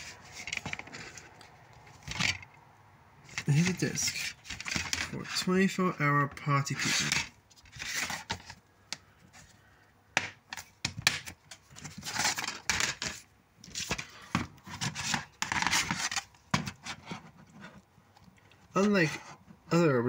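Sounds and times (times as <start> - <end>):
plastic scraping: 0.0 - 2.6, 3.2 - 9.6, 10.2 - 17.9.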